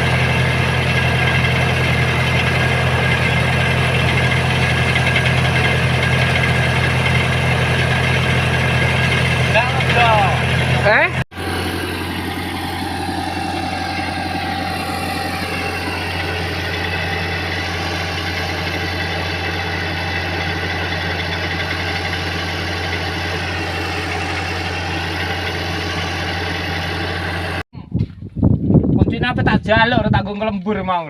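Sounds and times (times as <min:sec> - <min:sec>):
bulldozer diesel engine running: 0:00.0 - 0:27.6.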